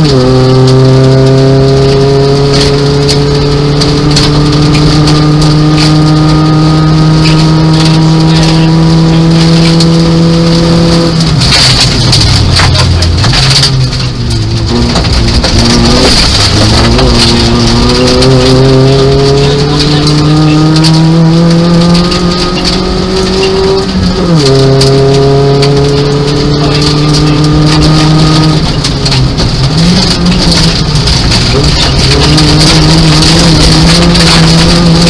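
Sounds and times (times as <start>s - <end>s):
car engine accelerating hard: 0.0s - 35.0s.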